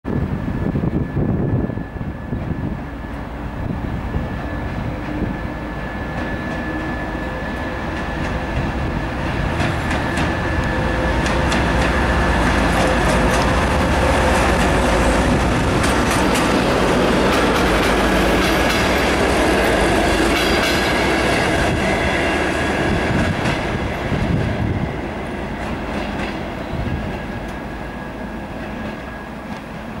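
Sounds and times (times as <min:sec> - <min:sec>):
diesel locomotive engine under load: 0:00.1 - 0:30.0
train wheels clacking over rail joints: 0:04.7 - 0:24.8, 0:25.4 - 0:30.0.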